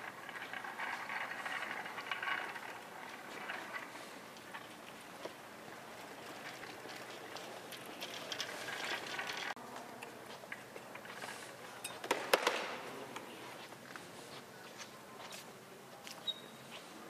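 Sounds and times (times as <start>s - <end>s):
large hall background noise: 0.0s - 17.0s.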